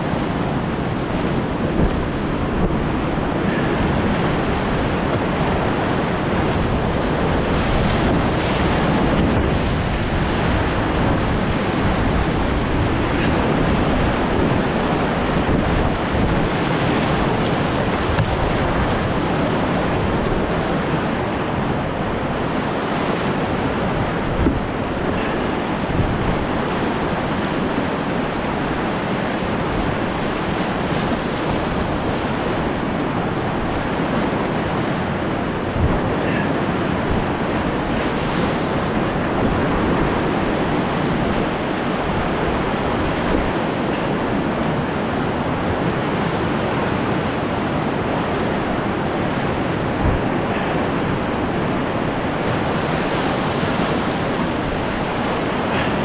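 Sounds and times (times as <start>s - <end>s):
waves splashing against canoe: 0.0s - 56.0s
whitewater rapid rushing: 0.0s - 56.0s.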